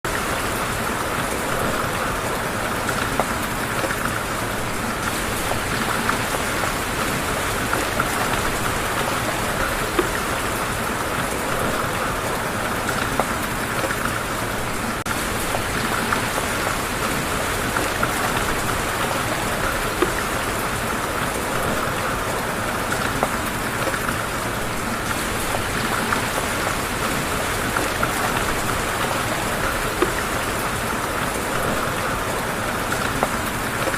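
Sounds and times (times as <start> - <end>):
steady rain patter: 0.0 - 33.9.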